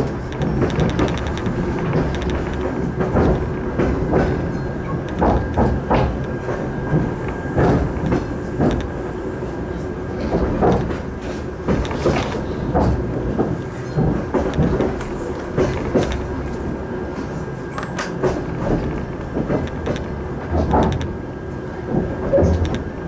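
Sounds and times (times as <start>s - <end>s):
wheels clattering over rail joints: 0.0s - 9.0s, 10.2s - 21.2s
train rumble inside carriage: 0.0s - 23.0s.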